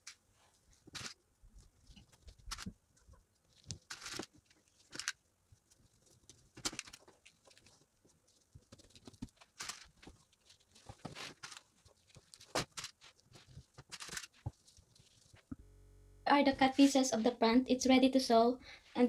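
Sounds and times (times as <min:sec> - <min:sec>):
fabric rustling and handling: 0:00.0 - 0:15.5.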